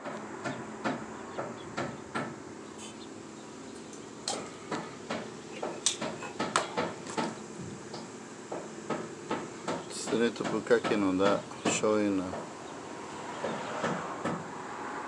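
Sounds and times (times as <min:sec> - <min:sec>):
sharp knocks and clicks: 0:00.0 - 0:02.4, 0:03.8 - 0:12.5, 0:13.4 - 0:14.5
low background hum: 0:00.0 - 0:14.8.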